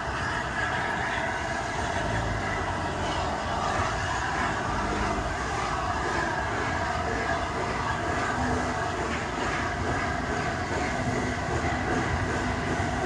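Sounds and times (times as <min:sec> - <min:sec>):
steam locomotive working: 0:00.0 - 0:13.0
train wheels on rails: 0:00.0 - 0:13.0.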